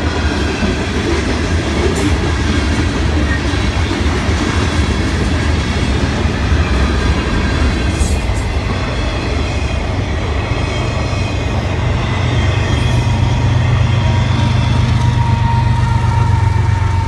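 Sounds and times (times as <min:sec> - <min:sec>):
diesel locomotive drone: 0:00.0 - 0:17.0
train wheels rumbling on rails: 0:00.0 - 0:17.0.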